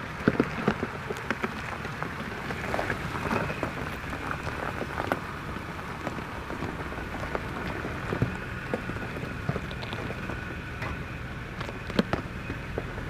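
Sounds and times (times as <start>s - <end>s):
engine running low: 0.0s - 13.0s
rocks popping under tyres: 0.0s - 13.0s
tyres crunching on gravel: 0.0s - 13.0s.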